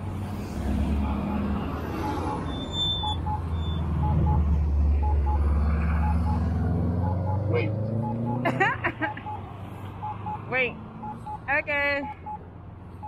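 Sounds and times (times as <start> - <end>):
traffic rumble: 0.0 - 13.0
crosswalk button beeps: 1.0 - 12.4.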